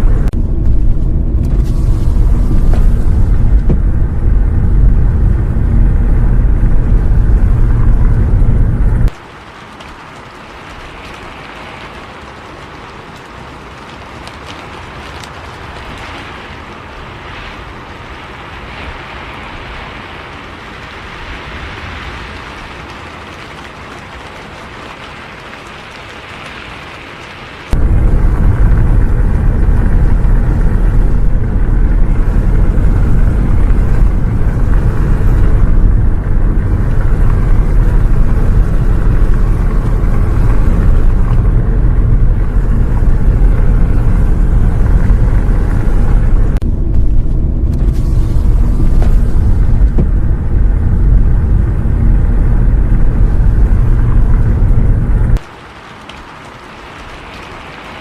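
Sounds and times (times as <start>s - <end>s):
bus engine and road noise: 0.0s - 55.5s
rain hiss: 0.0s - 58.0s.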